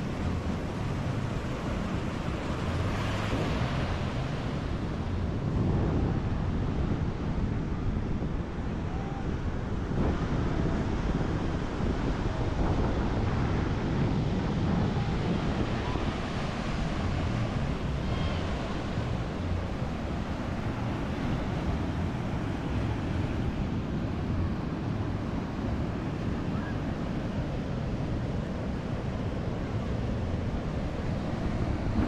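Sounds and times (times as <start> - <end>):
rushing outdoor noise: 0.0 - 32.0.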